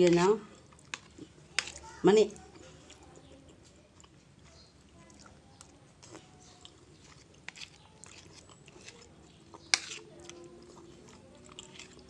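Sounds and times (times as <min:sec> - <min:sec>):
chewing: 0:00.5 - 0:12.0.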